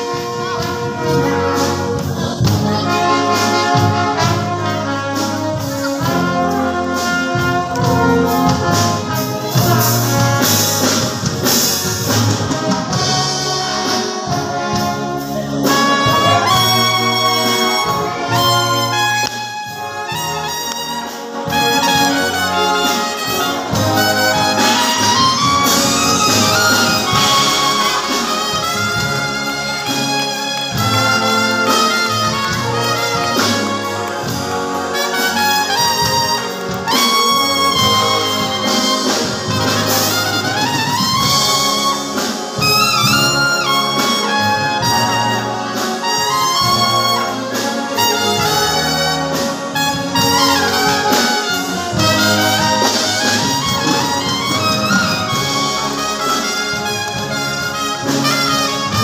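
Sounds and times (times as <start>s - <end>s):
military concert band: 0.0s - 59.0s
trumpets playing a duet: 0.0s - 59.0s.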